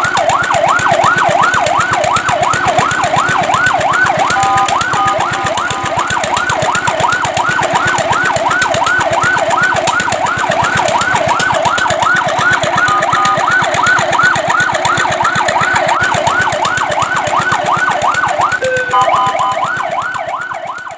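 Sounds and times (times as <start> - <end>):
fire truck siren yelping: 0.0 - 20.9.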